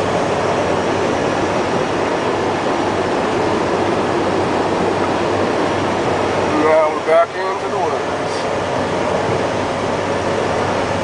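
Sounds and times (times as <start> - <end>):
truck road and engine noise: 0.0 - 11.0.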